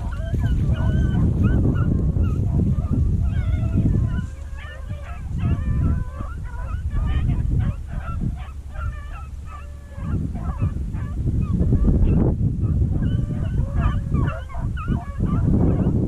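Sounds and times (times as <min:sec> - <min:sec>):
hounds baying: 0:00.0 - 0:16.0.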